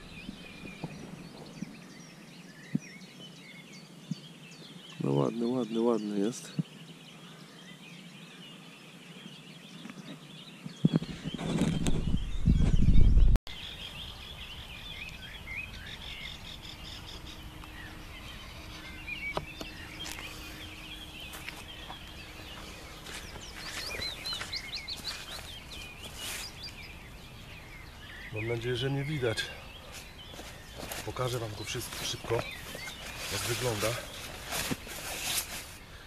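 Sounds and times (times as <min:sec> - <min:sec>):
small birds singing and chirping: 0:00.0 - 0:36.0.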